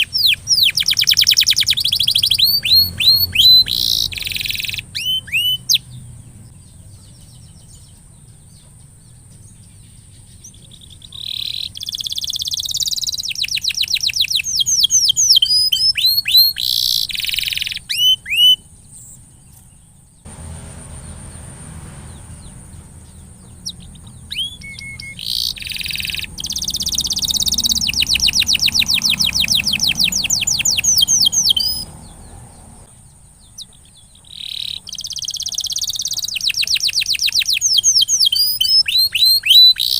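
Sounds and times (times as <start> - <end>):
canary singing trills and whistles: 0.0 - 20.0, 22.1 - 39.9.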